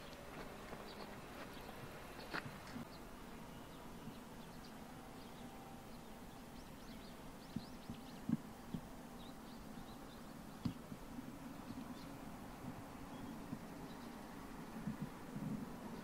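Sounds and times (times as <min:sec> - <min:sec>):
faint low hum: 0:00.0 - 0:16.0
small birds chirping: 0:00.0 - 0:16.0.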